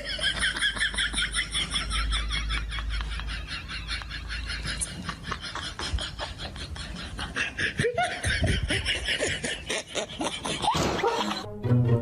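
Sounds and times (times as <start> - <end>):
people laughing: 0.0 - 11.5.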